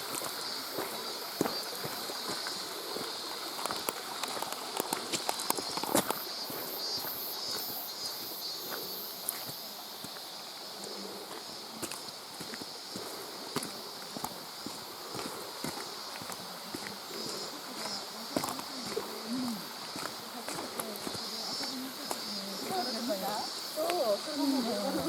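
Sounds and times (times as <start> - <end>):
footsteps on wet rocks: 0.0 - 25.0.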